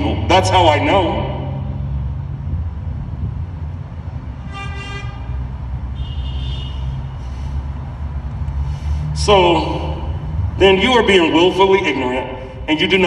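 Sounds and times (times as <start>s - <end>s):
steady low rumble: 0.0s - 4.5s, 7.0s - 13.0s.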